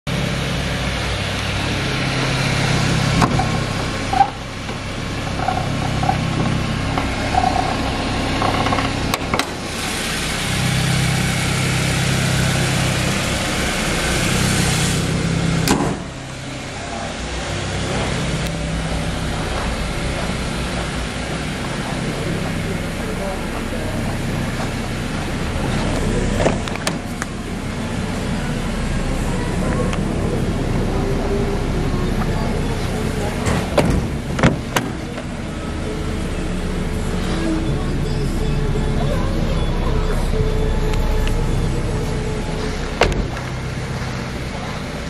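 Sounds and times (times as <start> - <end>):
car engine idling: 0.1 - 45.0
engine hiss: 0.1 - 45.0.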